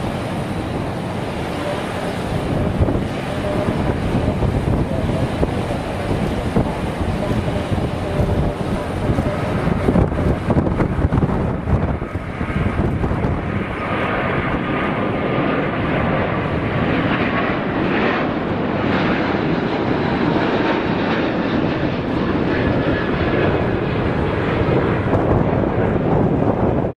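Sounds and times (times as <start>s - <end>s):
jet airliner taking off: 0.0s - 26.9s.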